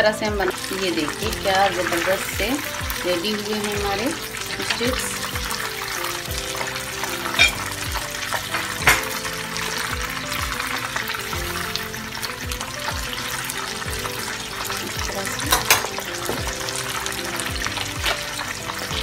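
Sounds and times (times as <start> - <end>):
food deep-frying in oil: 0.0 - 19.0
spoon stirring in pan: 0.5 - 19.0.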